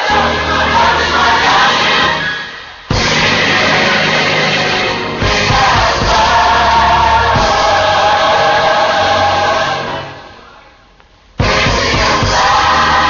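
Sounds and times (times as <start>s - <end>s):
gospel choir singing: 0.0s - 10.6s, 11.4s - 13.0s
instrumental backing: 0.0s - 13.0s.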